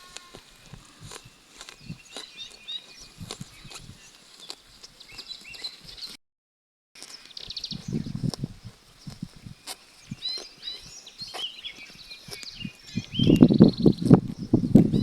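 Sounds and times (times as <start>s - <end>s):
sheep chewing grass: 0.0s - 6.2s, 7.0s - 15.0s
songbirds chirping: 0.0s - 6.2s, 7.0s - 15.0s.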